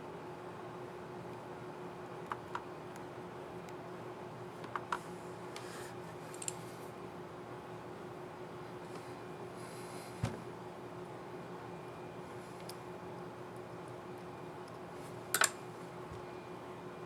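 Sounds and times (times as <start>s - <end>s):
faint hiss with low hum: 0.0s - 17.0s.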